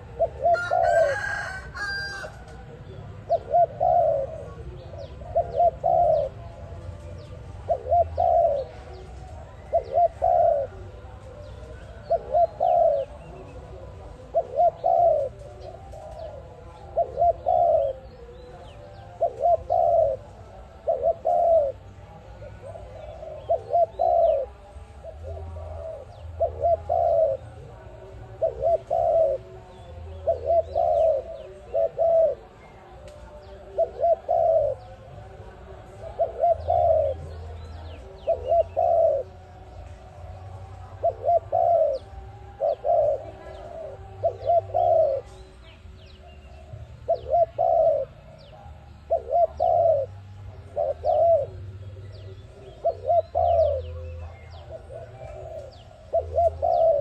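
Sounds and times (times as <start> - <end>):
dove cooing: 0.0 - 57.0
small birds chirping: 0.0 - 57.0.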